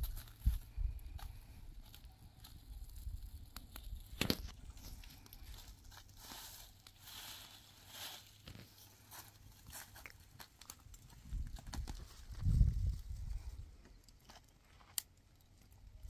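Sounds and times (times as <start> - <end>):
rustling and crinkling: 0.0 - 15.8.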